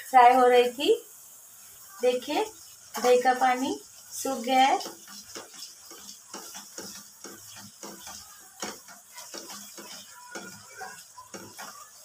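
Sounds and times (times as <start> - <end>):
oil sizzling: 0.0 - 12.0
spatula scraping a pan: 2.0 - 12.0.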